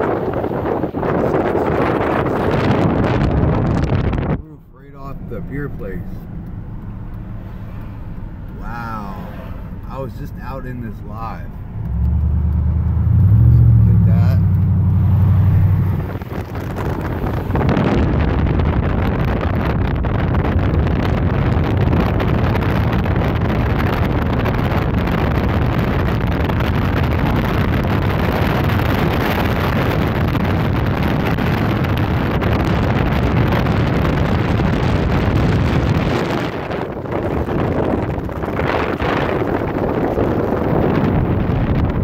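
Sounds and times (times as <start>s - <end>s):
wind buffeting microphone: 0.0s - 10.5s, 11.3s - 42.0s.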